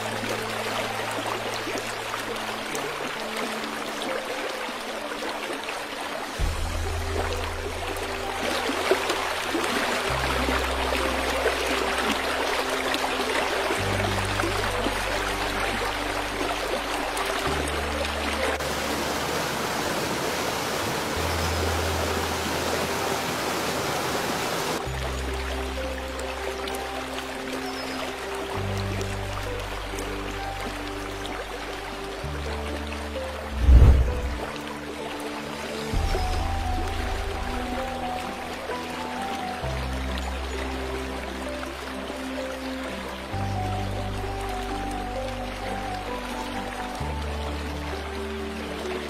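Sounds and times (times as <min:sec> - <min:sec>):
waterfall rushing: 0:00.0 - 0:25.0, 0:29.2 - 0:49.0
soft background music: 0:00.0 - 0:49.0.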